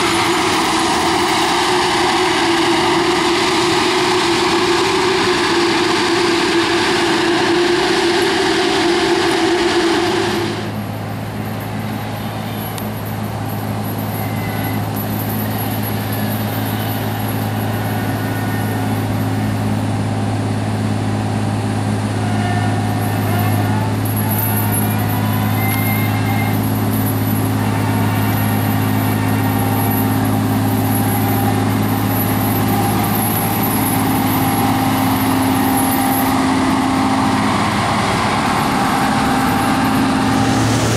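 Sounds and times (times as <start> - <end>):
loud farm machinery running: 0.0 - 40.9
low engine hum: 0.0 - 40.9.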